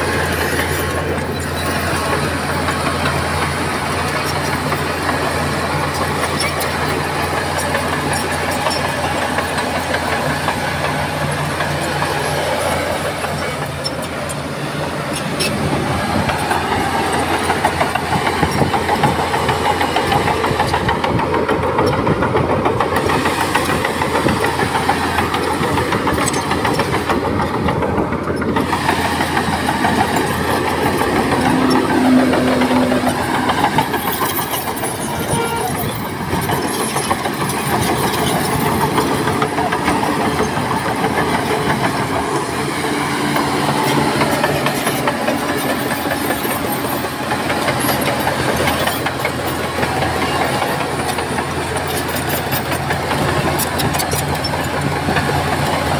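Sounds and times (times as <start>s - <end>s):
heavy diesel machinery engine: 0.0s - 55.9s.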